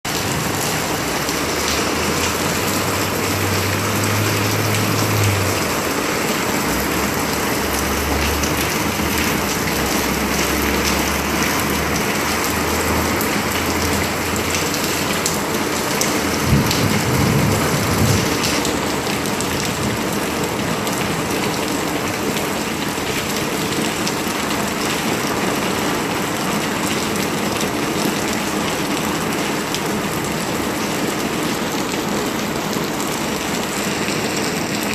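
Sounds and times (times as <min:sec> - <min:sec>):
rain splashing on surfaces: 0:00.0 - 0:34.9.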